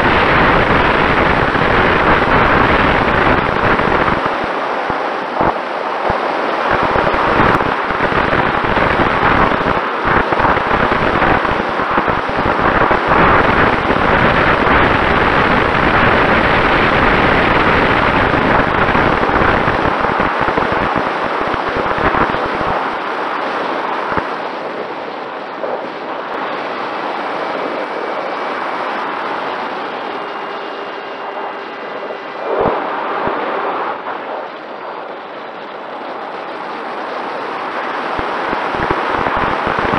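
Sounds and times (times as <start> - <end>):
electric motor and propeller whine: 0.0 - 39.9
wind buffeting microphone: 0.0 - 39.9.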